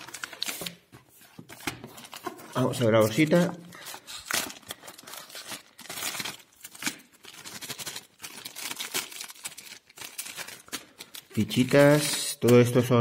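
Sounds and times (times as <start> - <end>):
plastic bags crinkling: 2.0 - 12.4.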